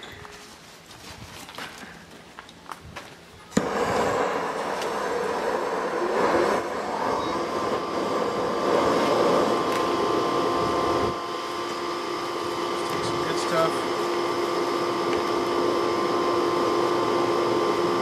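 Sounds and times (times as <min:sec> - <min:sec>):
steady hum: 0:01.6 - 0:18.0
propane torch flame hissing: 0:03.5 - 0:18.0.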